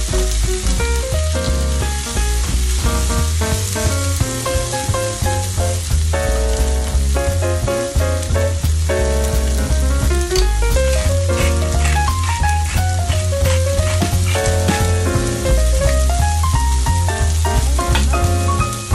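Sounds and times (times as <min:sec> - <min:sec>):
onions sizzling in a pan: 0:00.0 - 0:18.9.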